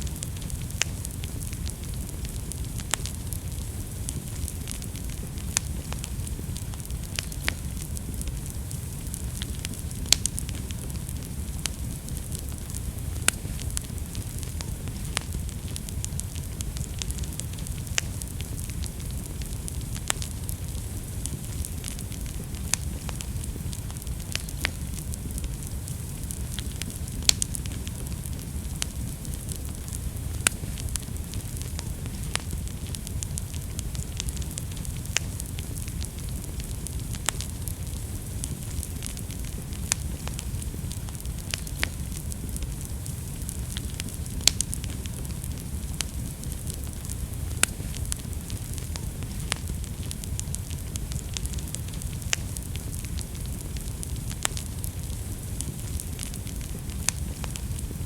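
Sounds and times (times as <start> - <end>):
fire crackling and popping: 0.0 - 58.0
low rush of flames: 0.0 - 58.0.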